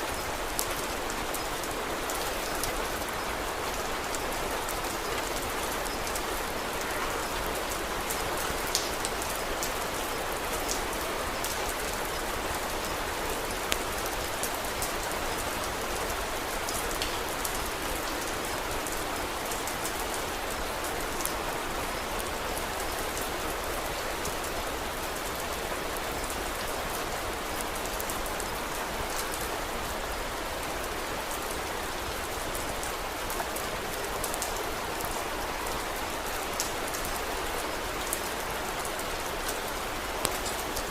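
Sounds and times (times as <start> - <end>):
rain crackles and ticks: 0.0 - 40.9.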